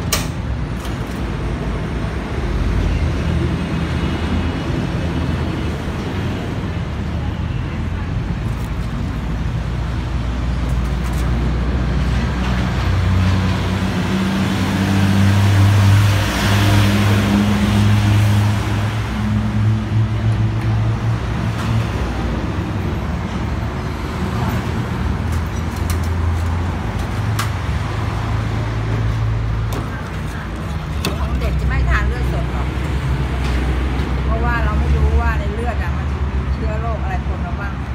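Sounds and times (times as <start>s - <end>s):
road traffic noise: 0.0s - 37.9s.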